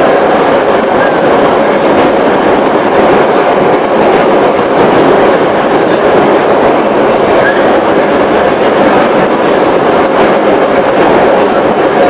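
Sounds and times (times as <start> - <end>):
train car rattling: 0.0 - 12.0
train wheels running on rails: 0.0 - 12.0.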